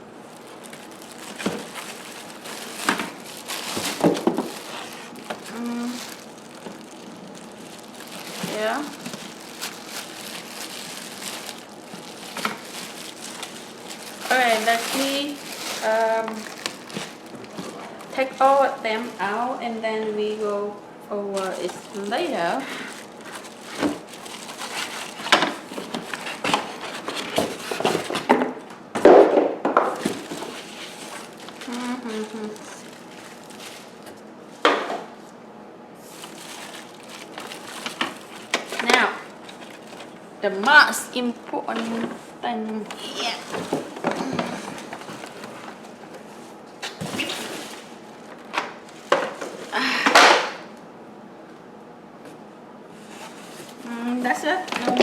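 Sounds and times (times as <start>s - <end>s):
packaging rustling: 0.0s - 19.4s, 21.2s - 28.4s, 29.9s - 35.4s, 36.0s - 40.3s, 41.8s - 49.8s.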